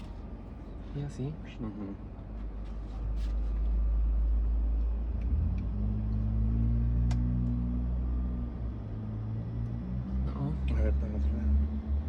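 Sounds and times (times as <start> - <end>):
engine-like rumble: 0.0 - 12.0.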